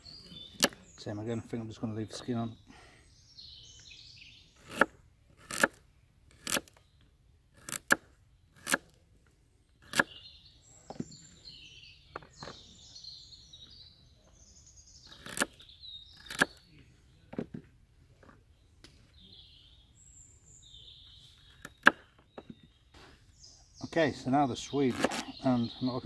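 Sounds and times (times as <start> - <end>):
small birds singing: 0.0 - 26.0.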